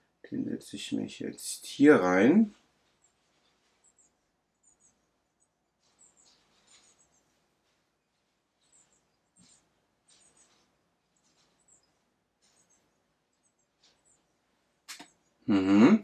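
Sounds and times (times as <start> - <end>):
faint soft rustles: 1.6 - 15.4.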